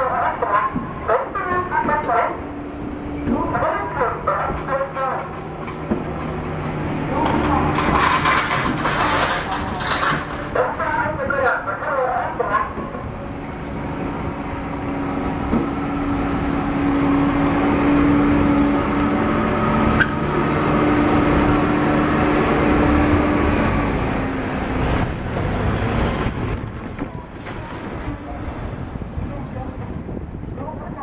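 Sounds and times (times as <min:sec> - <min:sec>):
forklift engine droning: 0:00.0 - 0:30.6.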